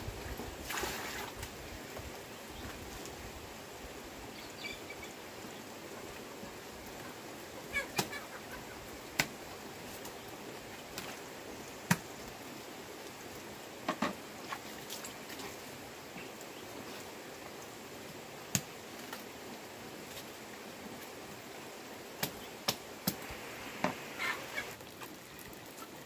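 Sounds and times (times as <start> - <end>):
steady low hiss: 0.0 - 26.0.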